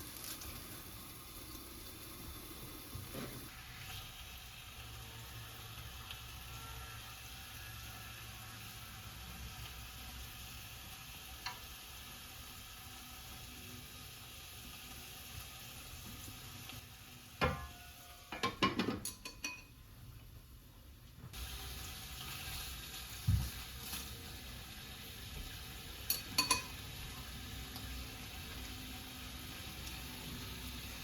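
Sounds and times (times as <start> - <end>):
food sizzling in a pan: 0.0 - 19.9, 21.3 - 31.0.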